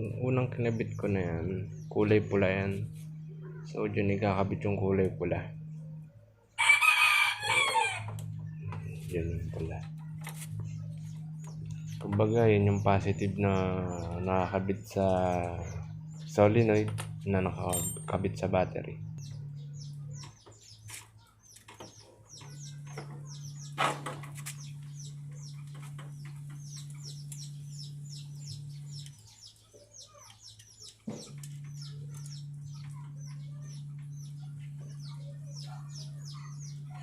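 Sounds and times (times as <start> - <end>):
birds chirping: 0.0 - 37.0
steady low hum: 0.0 - 37.0.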